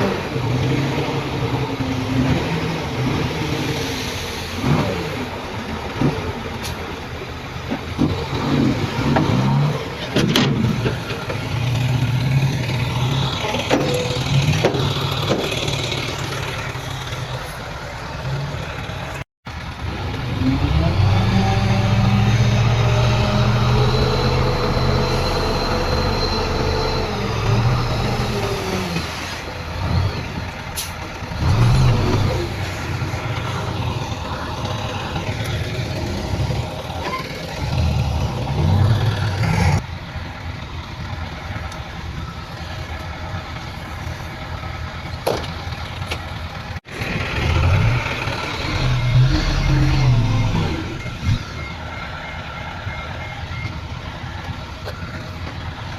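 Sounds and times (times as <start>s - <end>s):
bulldozer engine under load: 0.0s - 55.9s.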